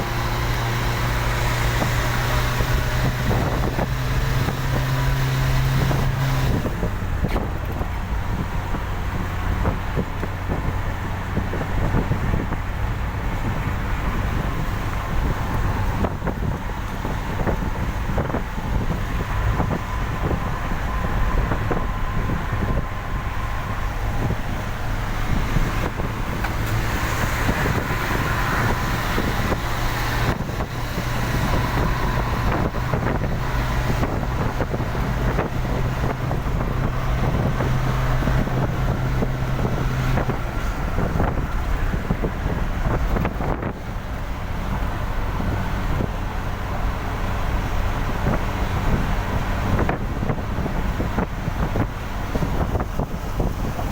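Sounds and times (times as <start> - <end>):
engine drone: 0.0 - 53.9
steady engine hum: 0.0 - 53.9
tyre and road noise on wet road: 0.0 - 53.9.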